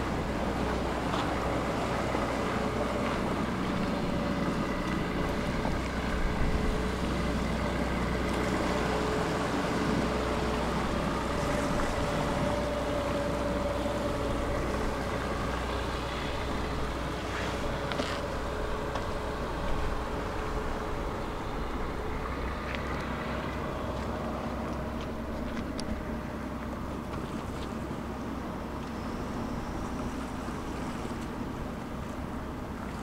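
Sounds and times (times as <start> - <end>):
ferry engine drone: 0.0 - 33.0.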